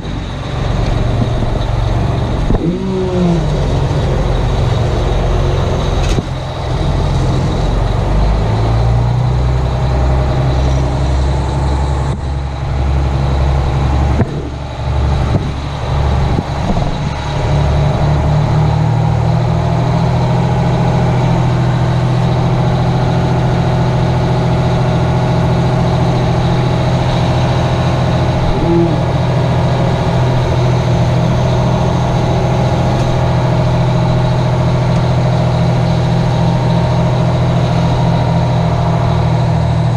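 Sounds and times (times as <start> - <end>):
fire truck diesel engine running: 0.0 - 39.9.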